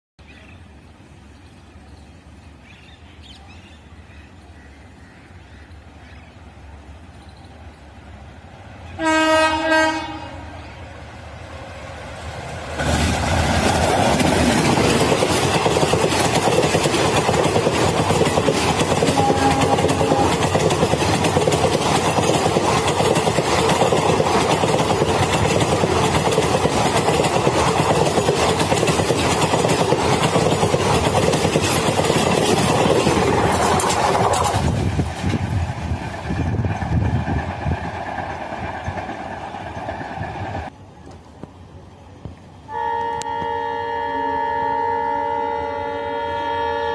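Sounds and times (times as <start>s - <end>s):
faint train rumble: 0.2s - 46.9s
train wheels rushing on rails: 4.0s - 45.4s.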